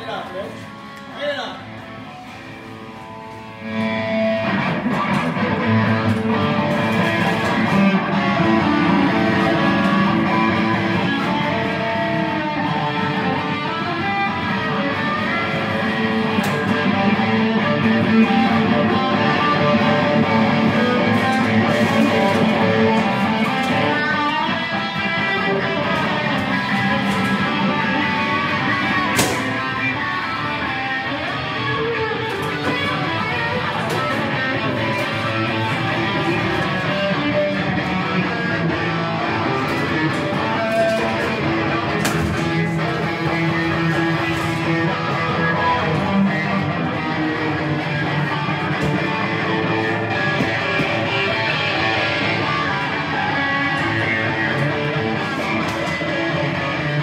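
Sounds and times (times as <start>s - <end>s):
electric guitar notes and chords: 0.0s - 57.0s.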